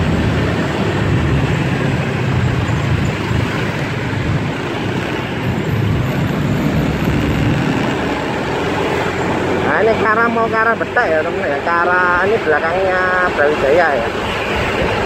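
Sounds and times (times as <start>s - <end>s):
vehicle road noise: 0.0s - 15.0s.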